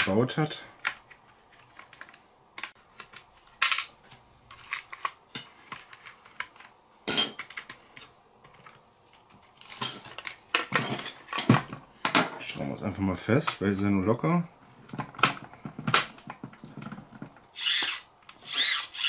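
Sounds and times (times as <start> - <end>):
plastic parts and tools clacking: 0.8 - 12.5, 14.9 - 19.0.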